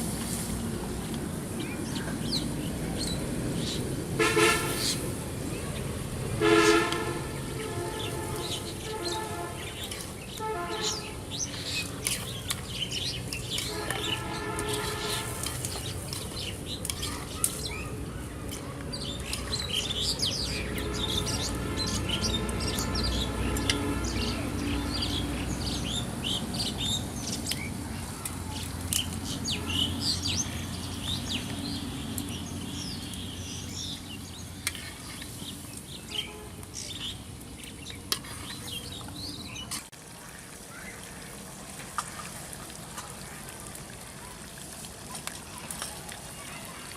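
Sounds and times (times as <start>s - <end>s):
small birds chirping: 1.0s - 41.5s.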